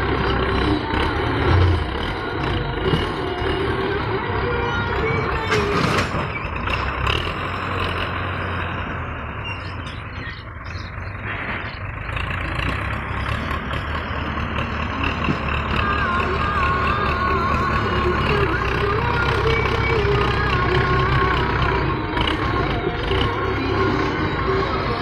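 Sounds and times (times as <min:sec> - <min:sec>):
tractor diesel engines under load: 0:00.0 - 0:25.0.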